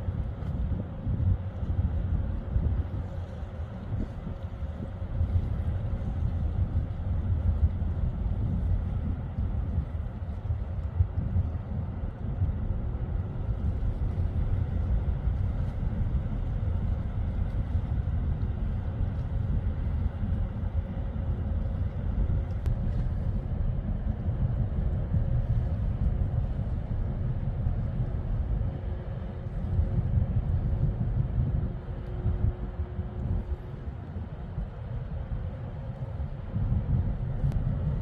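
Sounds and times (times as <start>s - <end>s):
faint steady hum: 0.0s - 38.0s
wind buffeting microphone: 0.0s - 38.0s.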